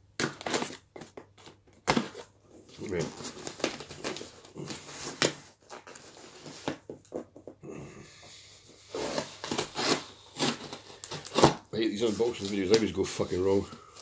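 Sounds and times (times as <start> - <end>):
cardboard rustling and scraping: 0.5 - 7.4, 8.8 - 14.0.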